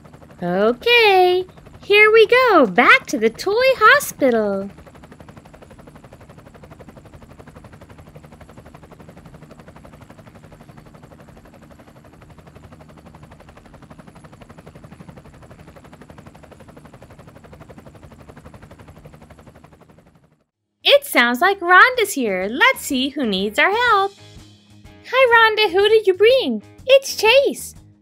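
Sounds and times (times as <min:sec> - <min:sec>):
helicopter rotor chopping: 0:00.0 - 0:24.4, 0:25.1 - 0:27.4.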